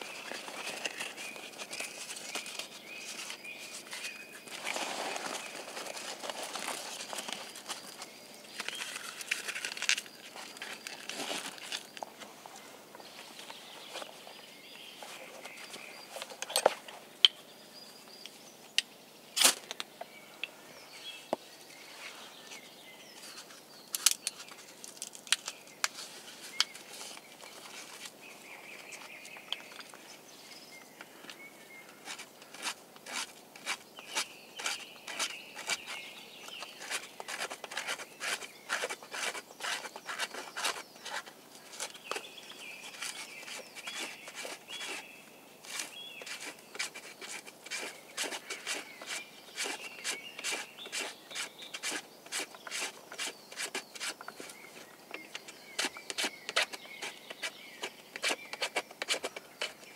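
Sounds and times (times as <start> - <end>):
birds chirping faintly: 0.0 - 59.9.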